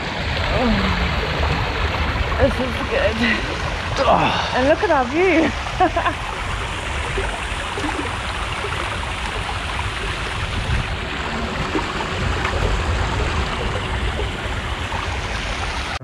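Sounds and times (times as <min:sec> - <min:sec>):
water rushing and trickling: 0:00.0 - 0:16.0.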